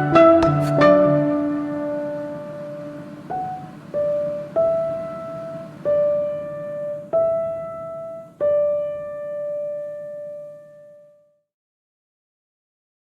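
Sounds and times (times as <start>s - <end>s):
slow piano music: 0.0s - 11.4s.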